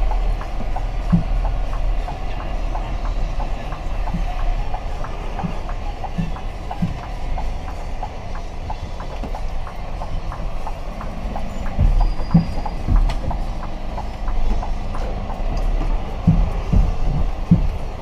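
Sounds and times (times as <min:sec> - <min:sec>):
heavy low thumps: 0:00.0 - 0:18.0
light ticking: 0:00.0 - 0:18.0
truck engine rumble: 0:00.0 - 0:18.0.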